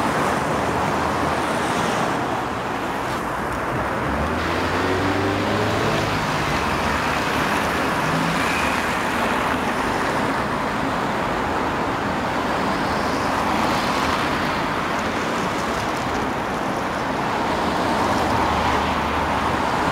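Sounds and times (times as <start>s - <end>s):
road traffic noise: 0.0s - 19.9s.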